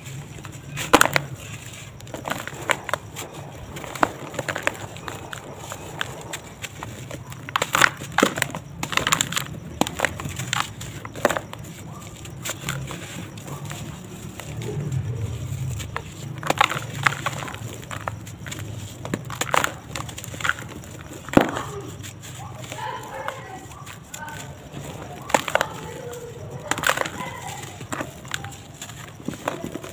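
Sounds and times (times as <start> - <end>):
dry cement lumps crunching in hands: 0.0 - 29.9.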